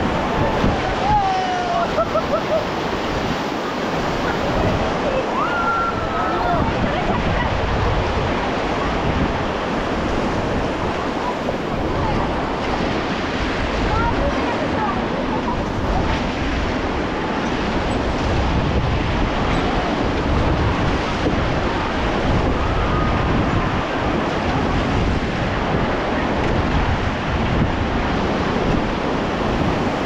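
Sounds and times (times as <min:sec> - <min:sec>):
river water rushing: 0:00.0 - 0:30.0
wind buffeting microphone: 0:00.0 - 0:30.0.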